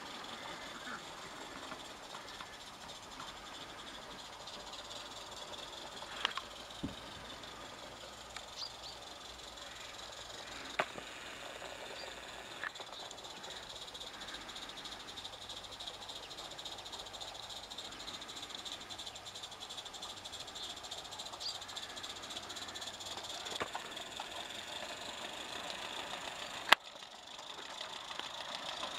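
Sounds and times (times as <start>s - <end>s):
sharp clicks: 0.0s - 28.9s
steam locomotive chuffing: 0.0s - 28.9s.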